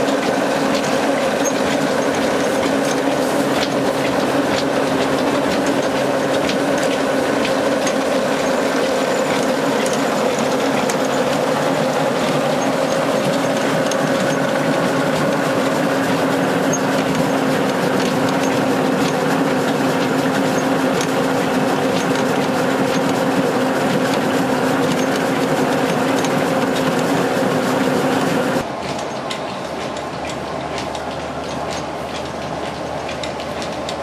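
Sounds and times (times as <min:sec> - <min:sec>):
rice mill rattling and droning: 0:00.0 - 0:34.0.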